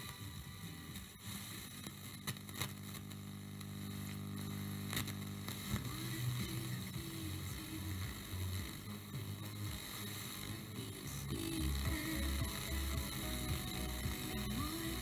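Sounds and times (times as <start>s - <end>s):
radio static hiss: 0.0s - 15.0s
weak radio station: 0.0s - 15.0s.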